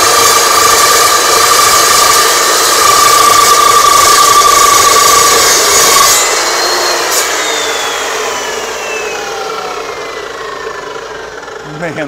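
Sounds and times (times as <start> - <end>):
miter saw cutting metal bar: 0.0 - 12.0
saw blade winding down: 0.0 - 12.0.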